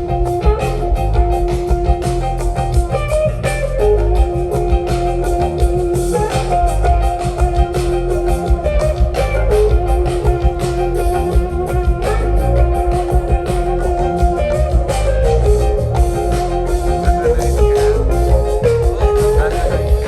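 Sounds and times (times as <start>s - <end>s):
bass guitar: 0.0s - 20.0s
drum kit beat: 0.0s - 20.0s
electric guitar sustained notes: 0.0s - 20.0s.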